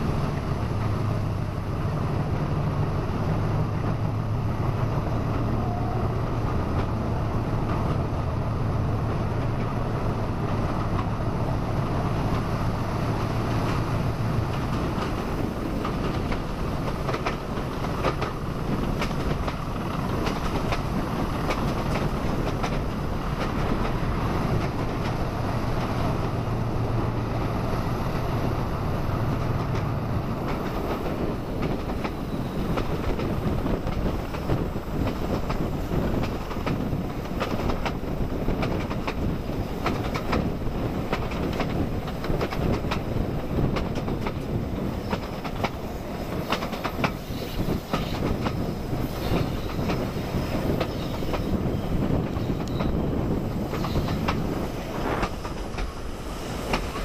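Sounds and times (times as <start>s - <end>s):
train wheels clicking over joints: 0.0s - 57.0s.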